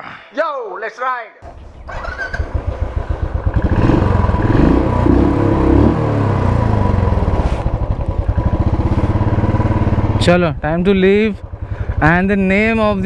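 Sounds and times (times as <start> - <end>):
motorcycle engine idling and revving: 1.4 - 13.0.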